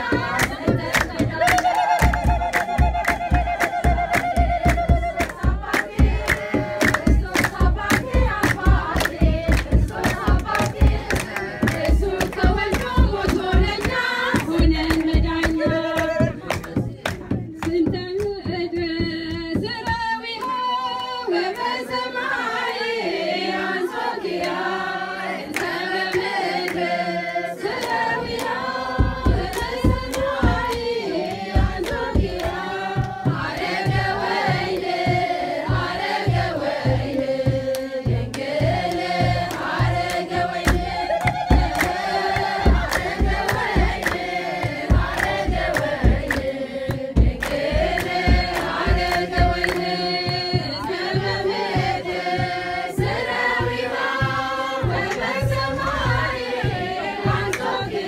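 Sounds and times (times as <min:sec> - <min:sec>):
drum beating steady rhythm: 0:00.0 - 0:20.7, 0:22.6 - 0:58.0
hand-clapping: 0:00.0 - 0:22.8, 0:23.9 - 0:58.0
women singing a hymn in unison: 0:00.0 - 0:58.0.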